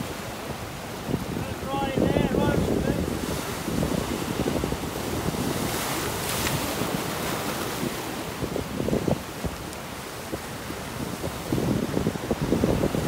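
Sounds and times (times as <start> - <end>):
ocean waves breaking: 0.0 - 13.0
wind buffeting microphone: 0.0 - 13.0.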